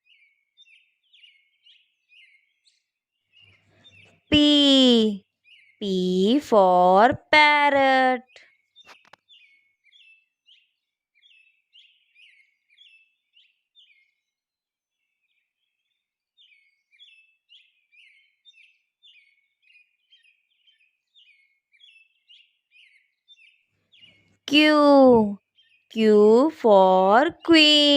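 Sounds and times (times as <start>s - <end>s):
faint bird chirping: 0.0s - 7.1s, 7.8s - 27.9s.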